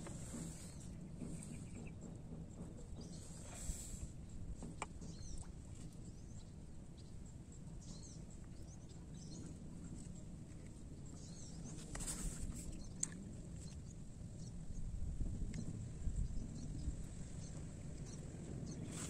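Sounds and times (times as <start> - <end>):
low steady rumble: 0.0 - 19.0
small birds chirping: 0.0 - 19.0.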